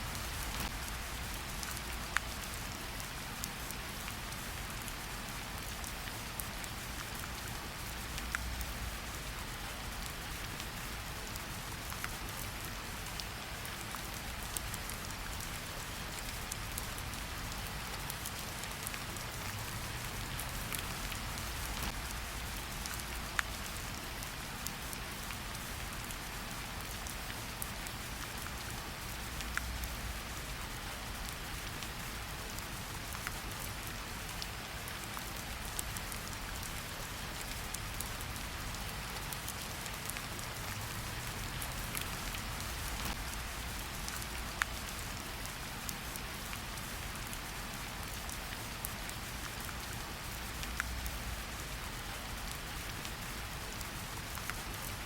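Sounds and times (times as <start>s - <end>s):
rain falling: 0.0s - 55.0s
raindrops ticking on leaves: 0.0s - 55.0s.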